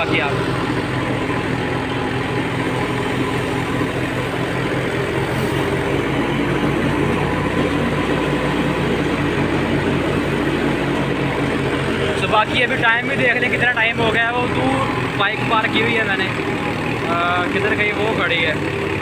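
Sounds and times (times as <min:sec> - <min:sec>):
diesel tractor engine: 0:00.0 - 0:19.0
thresher drum and belts rushing: 0:00.0 - 0:19.0.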